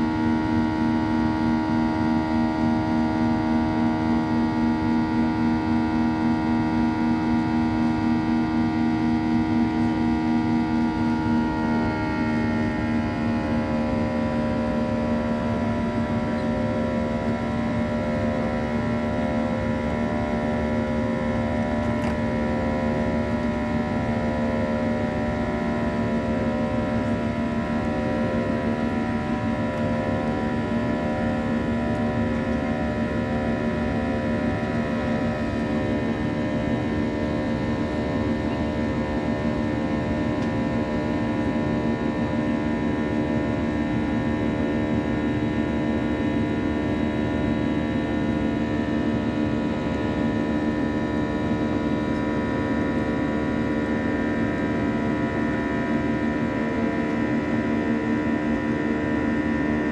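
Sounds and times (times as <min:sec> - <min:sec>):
jet engines droning in cabin: 0:00.0 - 0:59.9.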